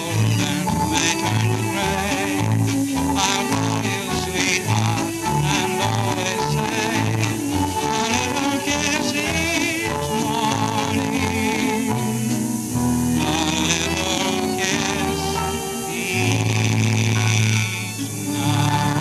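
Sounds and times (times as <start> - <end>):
dance orchestra music: 0.0 - 19.0
man singing: 0.0 - 19.0.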